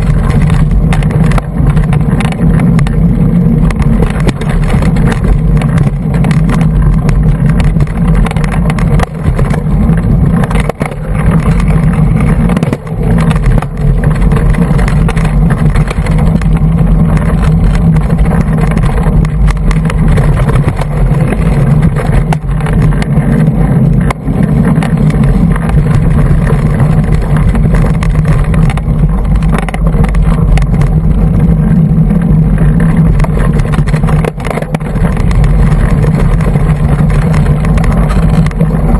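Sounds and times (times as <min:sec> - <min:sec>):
loud wind rumble: 0:00.0 - 0:38.9
mountain bike knocks and rattles: 0:00.0 - 0:38.9.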